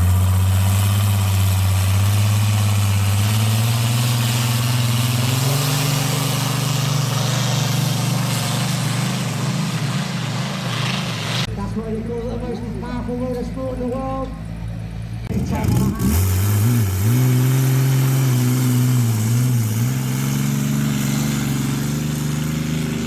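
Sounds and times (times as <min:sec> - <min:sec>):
tractor engine running hard: 0:00.0 - 0:23.0.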